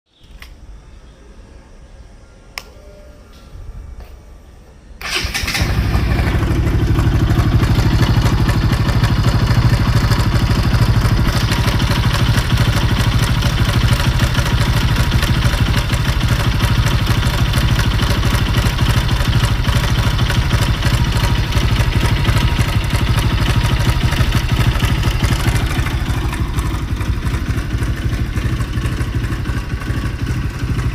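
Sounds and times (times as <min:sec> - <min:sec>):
motorcycle engine idling: 0:05.0 - 0:30.9.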